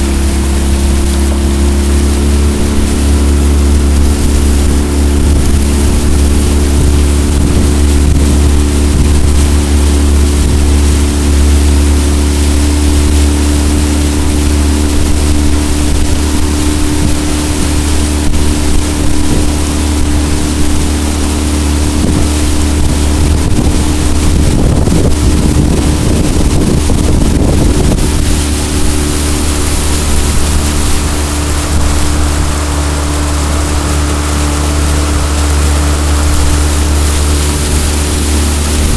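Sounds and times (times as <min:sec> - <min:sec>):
outboard motor humming: 0:00.0 - 0:38.9
wind noise on microphone: 0:00.0 - 0:38.9.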